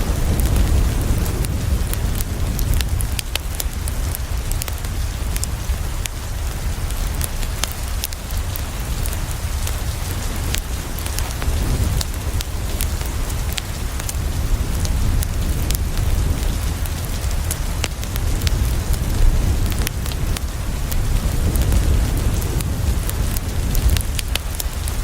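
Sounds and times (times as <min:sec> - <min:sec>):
heavy rain on window: 0:00.0 - 0:25.0
low thunder rumble: 0:00.0 - 0:25.0.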